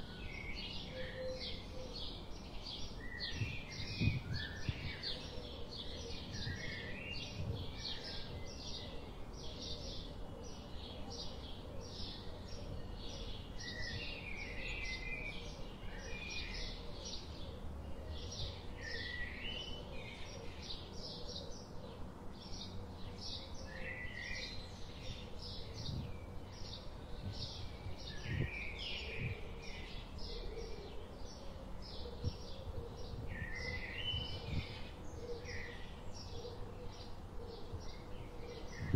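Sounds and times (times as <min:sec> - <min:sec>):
birds twittering: 0:00.0 - 0:38.9
low background noise: 0:00.0 - 0:38.9.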